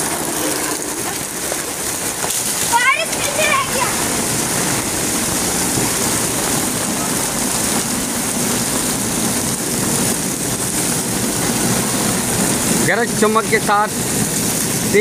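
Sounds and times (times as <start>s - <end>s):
heavy rain pouring on street and cars: 0.0s - 15.0s.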